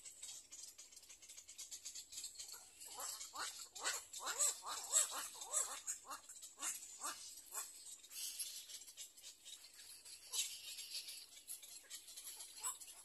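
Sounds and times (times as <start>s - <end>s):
bird chicks chirping: 0.0s - 13.0s.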